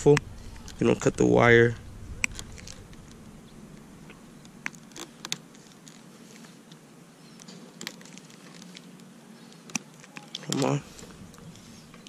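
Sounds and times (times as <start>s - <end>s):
faint low hum: 0.0s - 7.5s, 8.2s - 12.0s.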